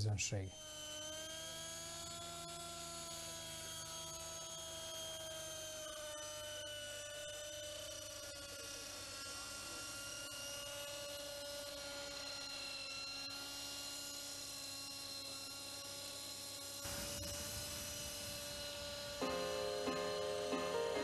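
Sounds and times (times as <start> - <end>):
model helicopter high whine: 0.0 - 21.0.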